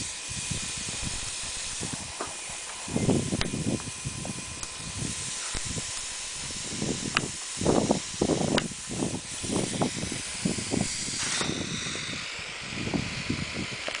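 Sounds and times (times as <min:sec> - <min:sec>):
compressed air hissing: 0:00.0 - 0:14.0.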